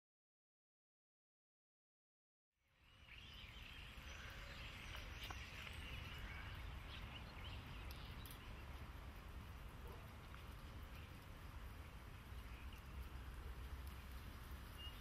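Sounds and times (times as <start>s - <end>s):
small birds chirping: 2.7s - 15.0s.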